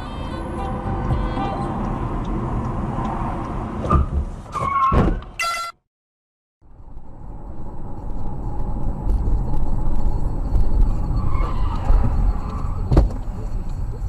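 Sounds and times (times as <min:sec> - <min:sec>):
car engine and road rumble: 0:00.0 - 0:05.4, 0:06.6 - 0:14.0.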